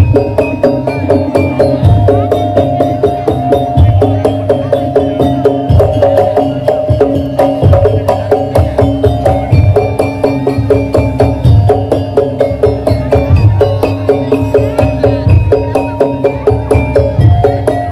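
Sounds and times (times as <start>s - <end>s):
drum and block strikes: 0.0s - 17.9s.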